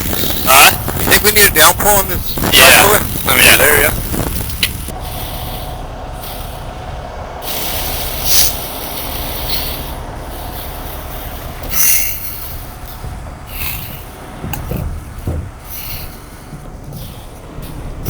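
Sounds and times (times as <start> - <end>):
air hissing: 0.0 - 18.0
diesel truck engine rumbling: 0.0 - 18.0.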